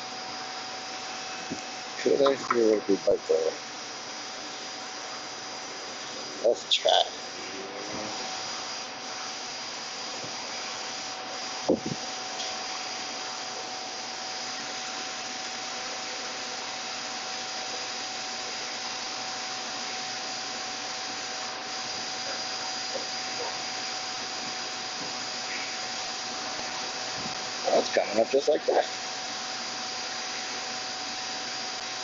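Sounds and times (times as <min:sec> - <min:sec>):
faint constant whine: 0:00.0 - 0:32.0.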